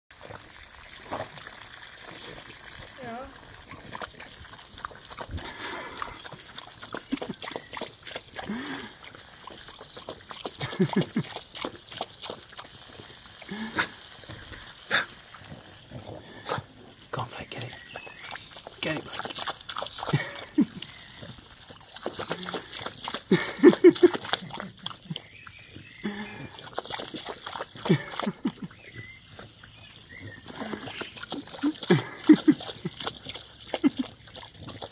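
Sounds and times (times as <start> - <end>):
dog lapping and slurping water: 0.1 - 34.9
water spattering from hose: 0.1 - 34.9.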